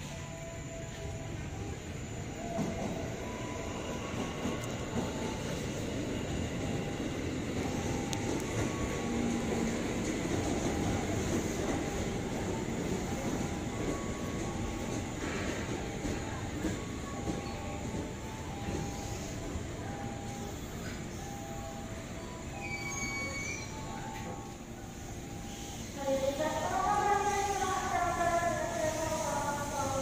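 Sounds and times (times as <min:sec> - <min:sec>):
train wheels rumbling on track: 0:00.9 - 0:30.0.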